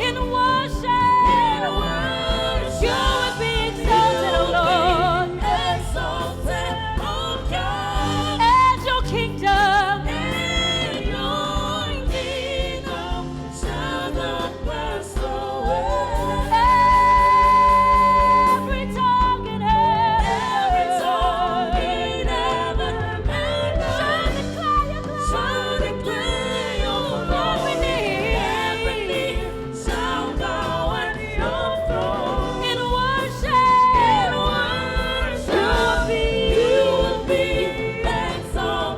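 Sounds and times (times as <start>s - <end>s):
band playing: 0.0s - 38.9s
solo voice singing gospel: 0.0s - 38.9s.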